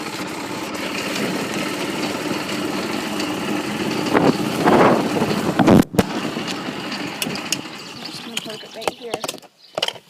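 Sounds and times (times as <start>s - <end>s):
golf cart engine running: 0.0s - 9.9s.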